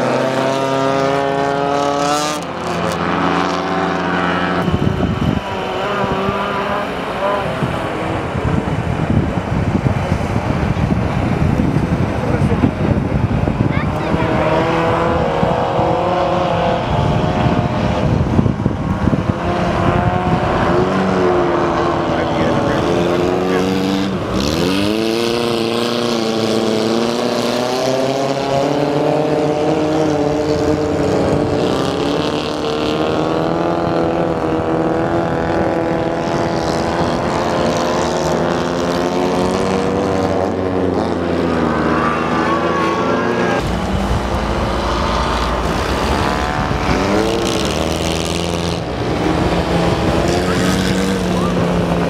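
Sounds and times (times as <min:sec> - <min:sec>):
race car engines revving: 0:00.0 - 0:52.0.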